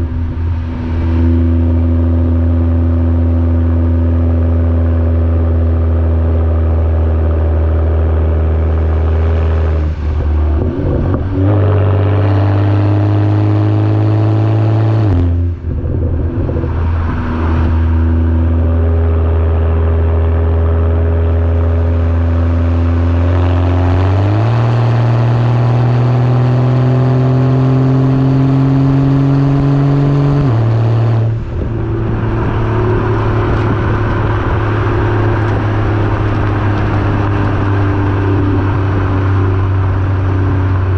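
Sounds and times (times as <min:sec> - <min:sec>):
car engine and exhaust driving: 0:00.0 - 0:40.9.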